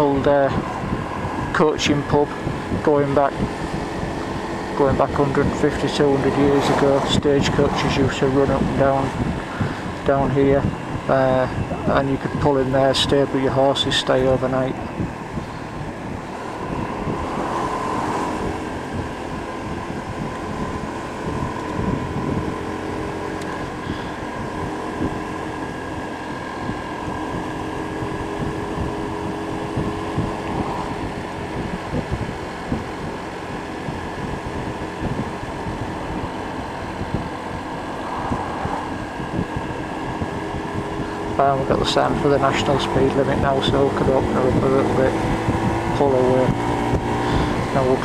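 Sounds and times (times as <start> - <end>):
scooter engine cruising: 0.0 - 48.0
wind buffeting microphone: 0.0 - 48.0.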